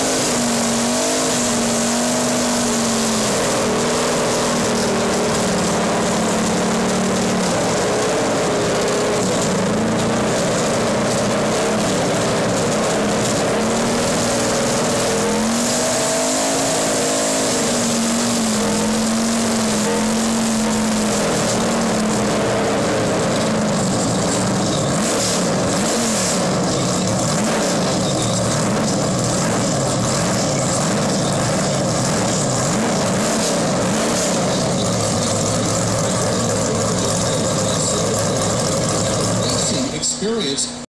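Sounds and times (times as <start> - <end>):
race car engine revving: 0.0 - 40.8.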